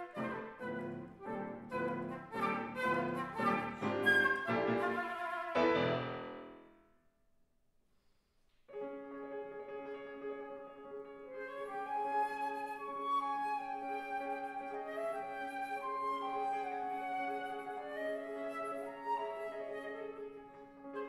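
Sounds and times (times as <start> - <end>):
flute and piano music: 0.0 - 6.8, 8.7 - 21.0.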